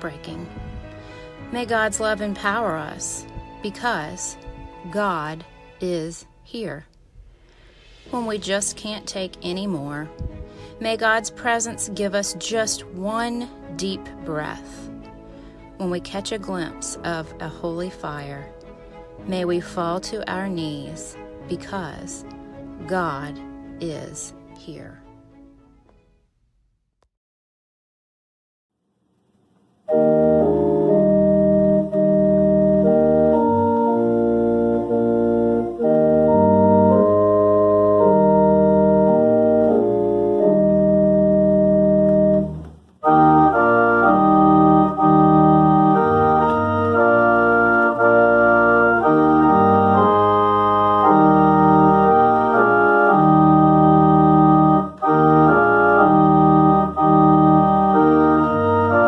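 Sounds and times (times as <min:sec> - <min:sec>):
organ playing sustained chords: 0:00.0 - 0:06.2, 0:08.1 - 0:25.2, 0:29.9 - 0:59.0.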